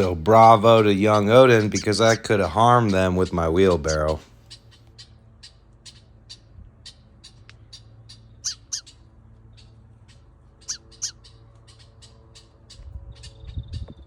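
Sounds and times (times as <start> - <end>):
blackbirds chirping: 0.0 - 14.0.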